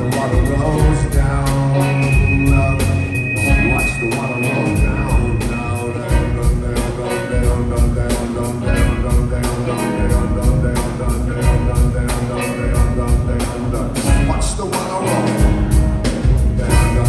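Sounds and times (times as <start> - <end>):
heavy bass line: 0.0 - 17.0
steady drum beat: 0.0 - 17.0.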